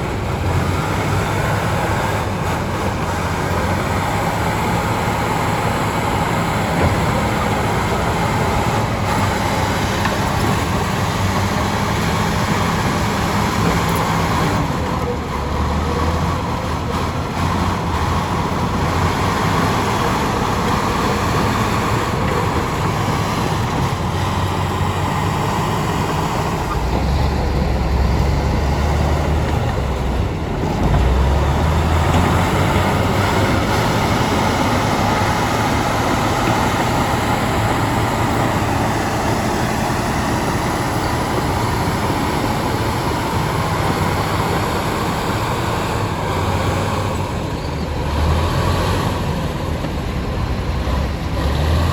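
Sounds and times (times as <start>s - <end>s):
diesel engines running under load: 0.0s - 51.9s.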